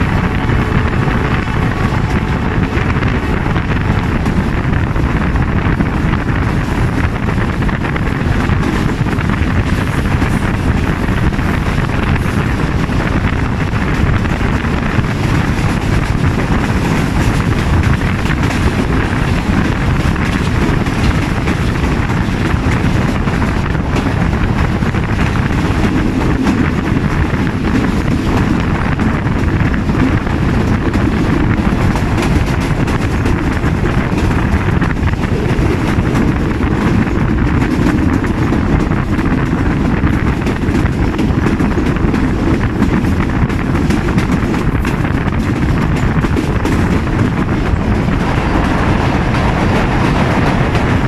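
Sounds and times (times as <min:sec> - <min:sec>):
train coaches rumbling: 0:00.0 - 0:51.0
wind rushing over microphone: 0:00.0 - 0:51.0.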